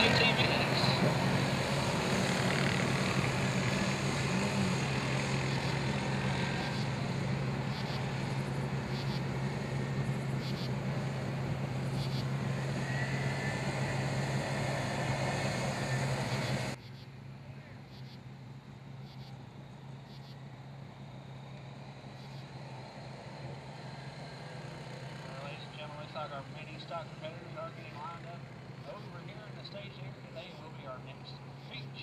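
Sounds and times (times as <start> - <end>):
small atv engines droning: 0.0 - 32.0.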